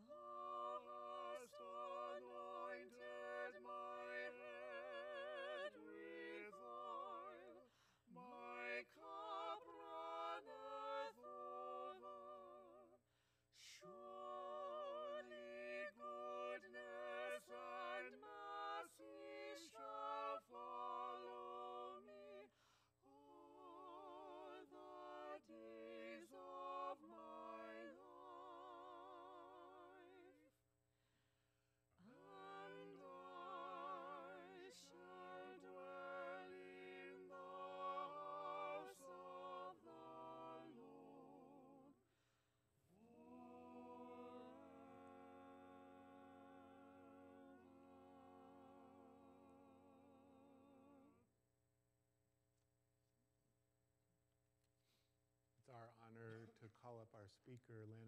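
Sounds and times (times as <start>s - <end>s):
vocal ensemble singing: 0.0s - 13.0s, 13.6s - 30.5s, 32.0s - 42.0s, 42.9s - 51.2s.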